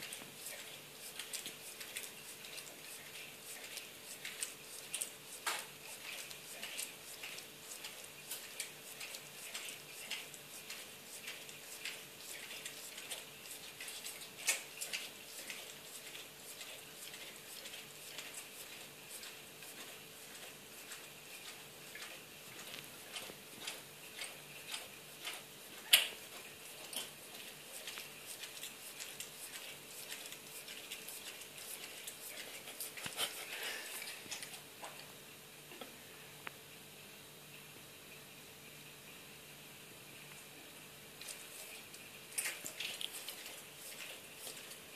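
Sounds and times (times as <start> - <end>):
dog licking fur: 0.0 - 34.6, 41.2 - 44.9.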